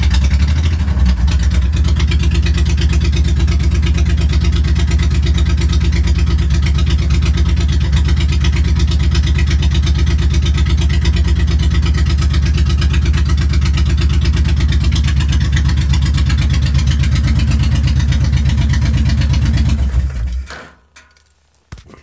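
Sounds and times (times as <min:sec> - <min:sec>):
motorcycle engine idling: 0:00.0 - 0:20.6.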